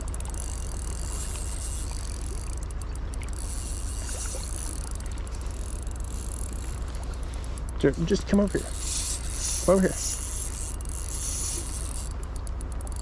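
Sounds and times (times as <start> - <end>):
creek water flowing: 0.0 - 12.5.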